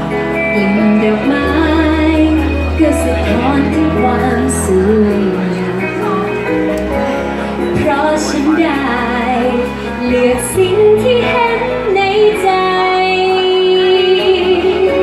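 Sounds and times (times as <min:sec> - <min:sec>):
instrumental accompaniment: 0:00.0 - 0:15.0
woman singing: 0:00.1 - 0:06.4, 0:07.6 - 0:15.0.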